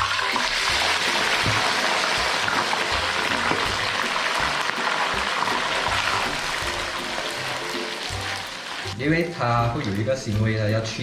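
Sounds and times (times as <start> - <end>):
background music beat: 0.0 - 11.0
deep-frying crackling sizzle: 0.0 - 11.0.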